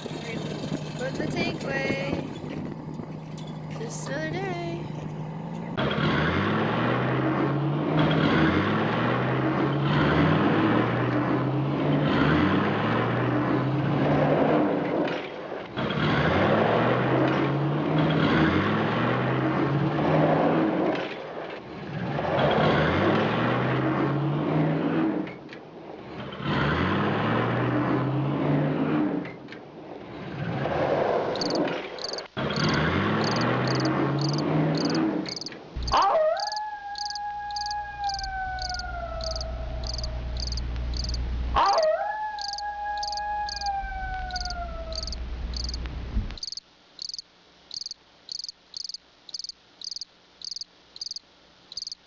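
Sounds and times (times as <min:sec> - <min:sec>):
tank engine revving: 0:00.0 - 0:25.4, 0:26.0 - 0:41.8, 0:42.4 - 0:46.2.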